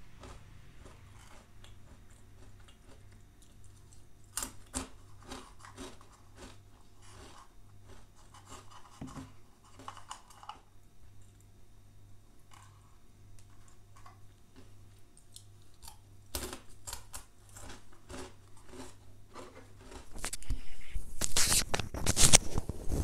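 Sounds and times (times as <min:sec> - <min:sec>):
chewing crunchy breadsticks: 0:00.0 - 0:11.6, 0:12.4 - 0:22.2.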